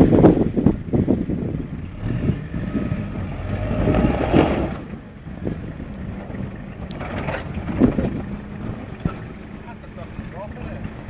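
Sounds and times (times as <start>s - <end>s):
pickup truck engine labouring: 0.0s - 11.0s.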